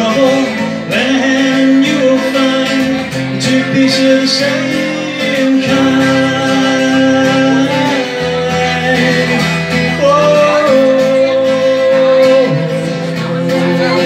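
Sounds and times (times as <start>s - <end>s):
acoustic guitar strumming: 0.0s - 14.0s
man singing wordless notes: 0.0s - 14.0s.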